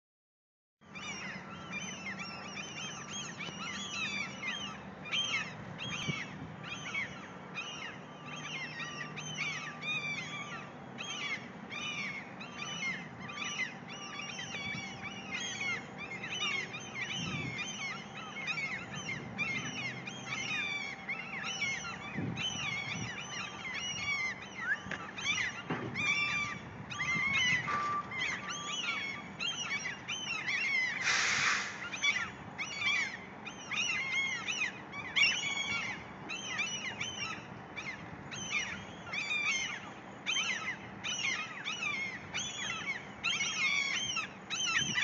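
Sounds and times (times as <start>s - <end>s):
seagulls calling: 0.8s - 45.0s.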